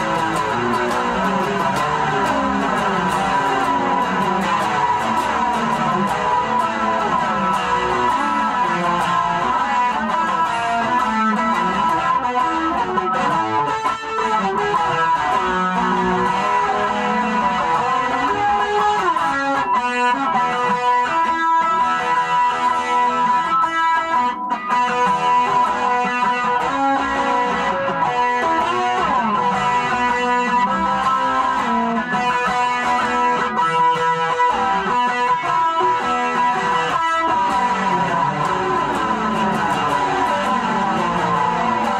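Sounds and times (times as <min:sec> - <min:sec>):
guitar plucked and strummed: 0:00.0 - 0:41.9.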